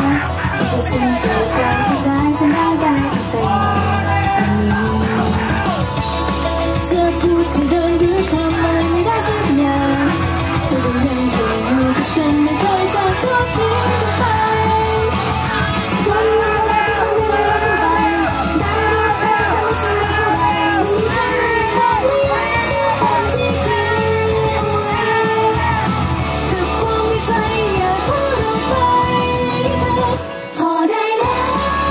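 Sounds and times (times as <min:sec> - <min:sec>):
women singing a pop song: 0:00.0 - 0:05.7, 0:06.6 - 0:31.9
backing track through speakers: 0:00.0 - 0:31.9.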